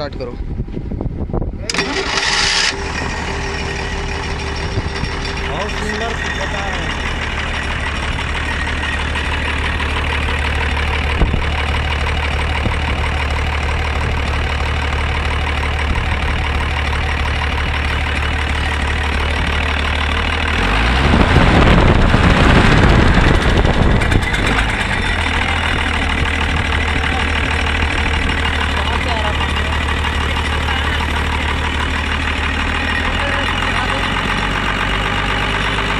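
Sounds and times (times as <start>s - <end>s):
truck diesel engine idling: 0.5s - 35.9s
engine revving: 1.7s - 35.9s.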